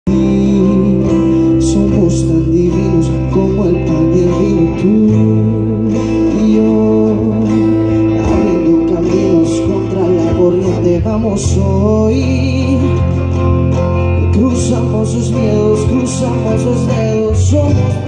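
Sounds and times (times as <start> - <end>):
guitar: 0.0 - 18.0
sustained bass: 0.0 - 18.0.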